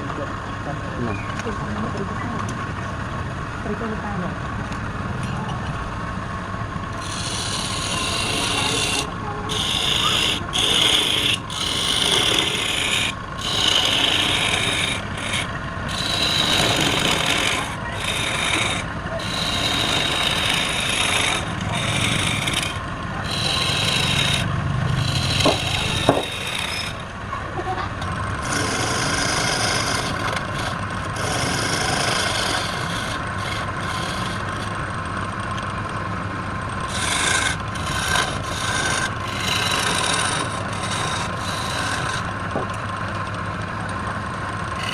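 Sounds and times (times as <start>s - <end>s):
wood lathe spinning: 6.1s - 44.9s
tool scraping turning wood: 6.9s - 43.4s, 44.5s - 44.9s.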